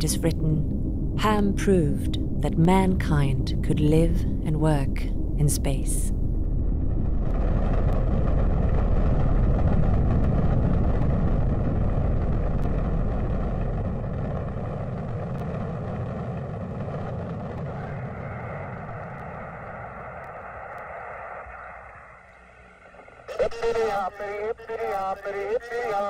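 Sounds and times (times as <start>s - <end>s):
rocket engines rumbling: 0.0s - 26.0s.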